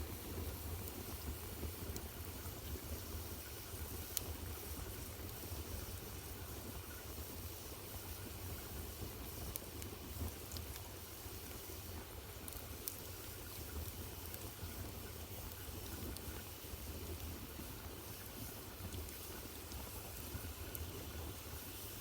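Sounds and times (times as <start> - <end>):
fire crackles: 0.0 - 22.0.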